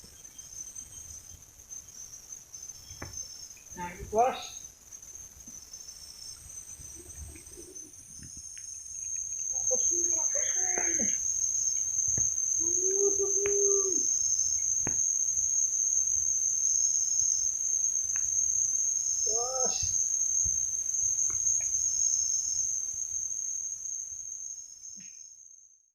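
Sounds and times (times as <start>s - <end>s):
insects droning: 0.0s - 25.9s
short insect calls: 0.0s - 25.9s.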